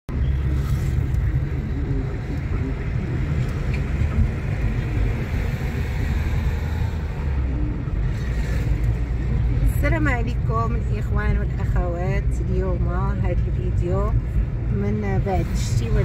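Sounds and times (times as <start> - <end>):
car cabin road rumble: 0.1 - 16.0.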